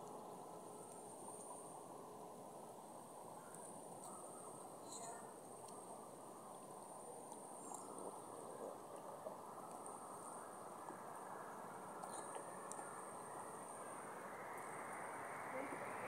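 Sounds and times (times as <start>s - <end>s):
faint clicks: 0.0s - 1.8s, 3.3s - 11.3s, 11.9s - 15.1s
low background hiss: 0.0s - 16.0s.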